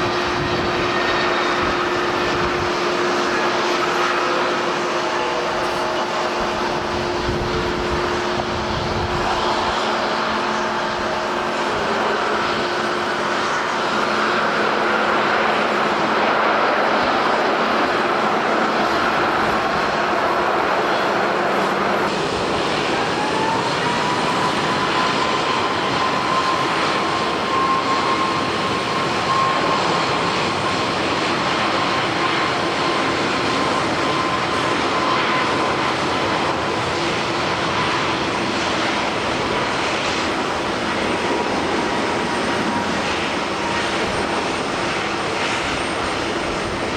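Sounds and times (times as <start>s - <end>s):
jet airliner engines: 0.0s - 46.9s
jet engine whine spooling up: 0.0s - 46.9s
wind noise: 0.0s - 46.9s.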